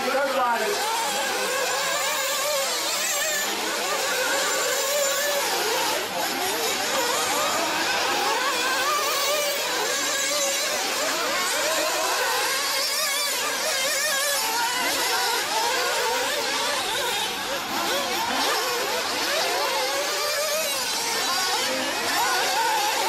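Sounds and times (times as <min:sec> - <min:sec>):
model engines buzzing: 0:00.0 - 0:23.0.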